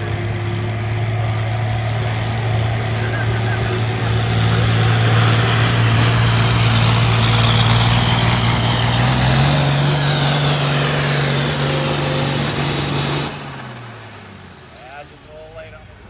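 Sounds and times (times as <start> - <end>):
diesel engine running hard: 0.0 - 16.0.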